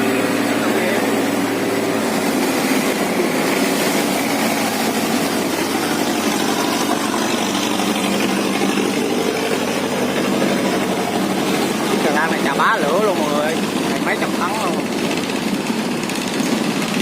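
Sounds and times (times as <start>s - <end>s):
boat engines running: 0.0s - 17.0s.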